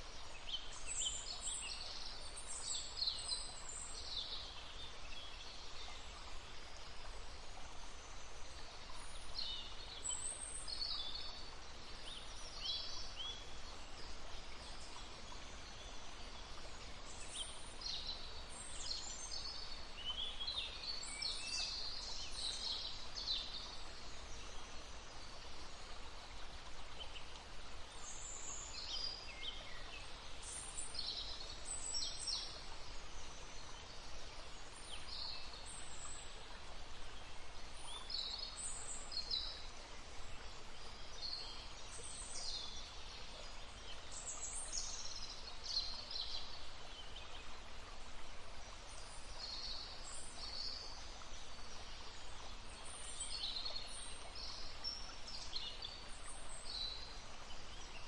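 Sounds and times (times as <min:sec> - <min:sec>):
babbling brook: 0:00.0 - 0:58.0
songbirds chirping: 0:00.0 - 0:58.0.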